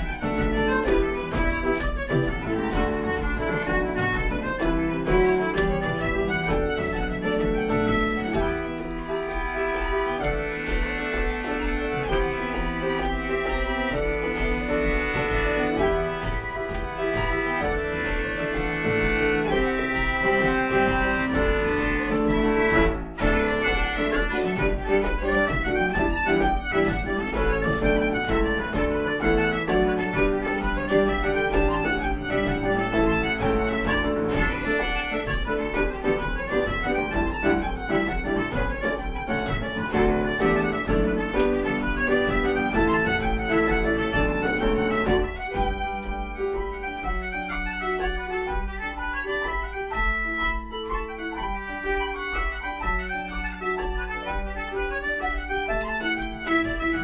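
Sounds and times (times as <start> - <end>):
frame drum beat: 0.0 - 49.8
concertina: 0.0 - 57.0
fiddle: 0.0 - 57.0
piano accompaniment: 0.0 - 57.0.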